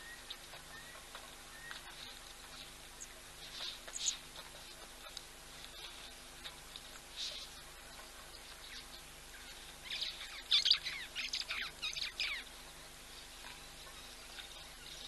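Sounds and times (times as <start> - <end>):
wild birds calling: 0.0 - 15.0.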